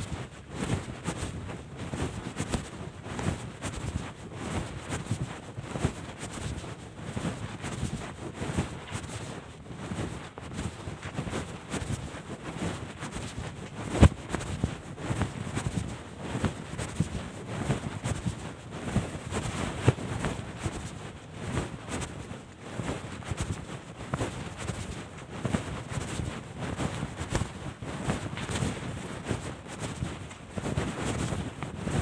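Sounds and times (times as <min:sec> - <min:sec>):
rumbling and rustling on microphone: 0:00.0 - 0:32.0.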